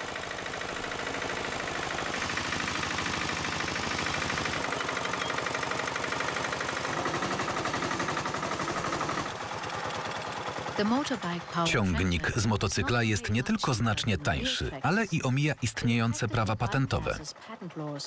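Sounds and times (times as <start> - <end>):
single-cylinder motorcycle engine running: 0.0 - 18.0.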